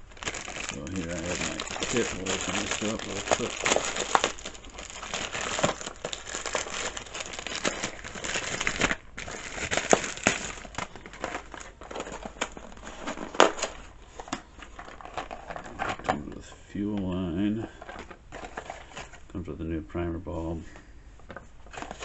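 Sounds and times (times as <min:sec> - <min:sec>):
plastic packaging crinkling: 0:00.0 - 0:19.3, 0:21.6 - 0:22.0.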